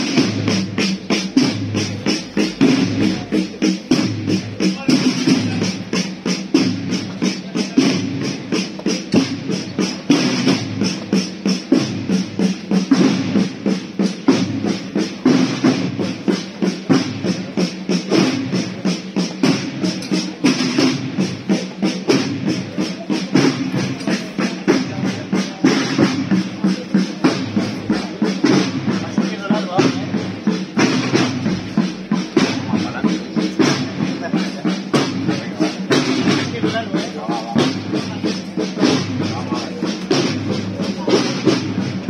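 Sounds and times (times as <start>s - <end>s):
drums beating march rhythm: 0.0s - 42.0s
processional band music: 0.0s - 42.0s.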